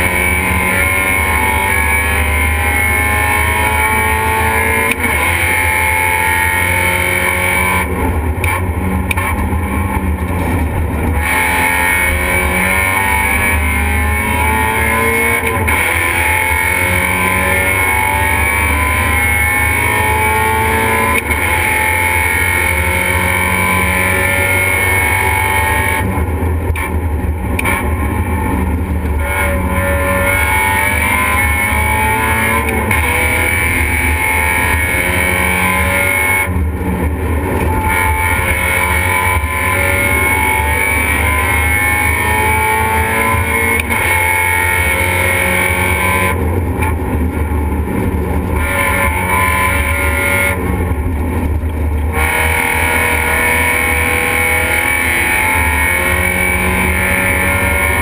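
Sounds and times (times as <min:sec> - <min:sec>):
race car engine revving through gears: 0:00.0 - 0:58.0.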